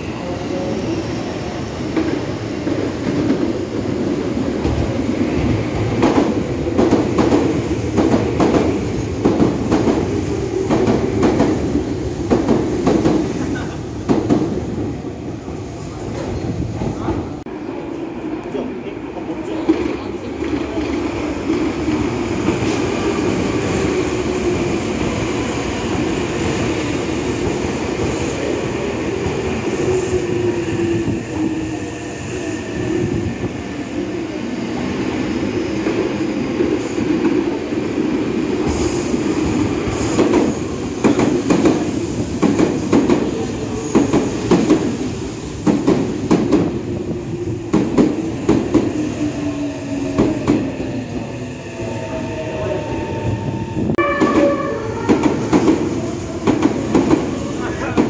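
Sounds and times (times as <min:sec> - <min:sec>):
electric trains rumbling past: 0:00.0 - 0:58.0.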